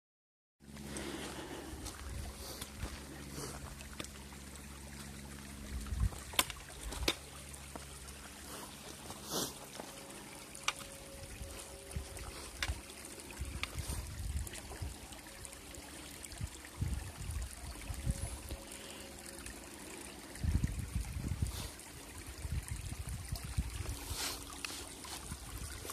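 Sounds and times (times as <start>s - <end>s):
creek water trickling over pebbles: 0.6s - 25.9s
low steady hum: 0.6s - 25.9s.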